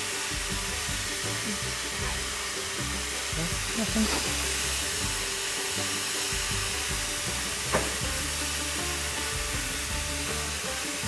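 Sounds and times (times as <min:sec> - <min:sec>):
noodles sizzling on griddle: 0:00.0 - 0:11.0.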